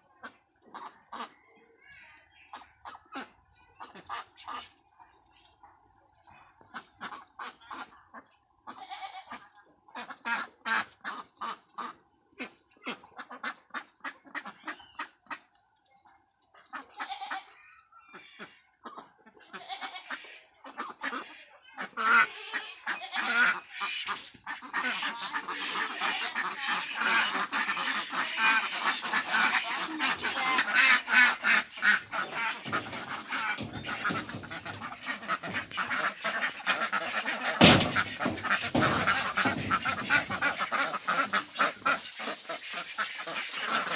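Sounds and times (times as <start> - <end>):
ducks quacking: 0.1 - 15.6, 16.6 - 43.9.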